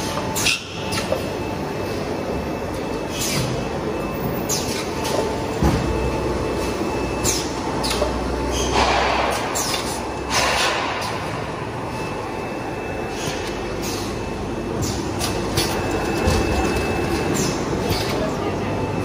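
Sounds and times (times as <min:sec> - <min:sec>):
machine running: 0:00.0 - 0:19.0.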